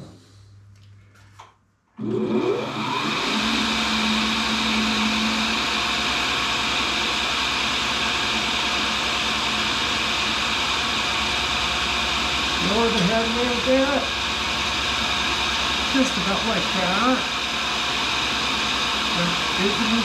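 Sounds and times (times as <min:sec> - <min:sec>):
grinder motor whining and humming: 0:02.0 - 0:20.0.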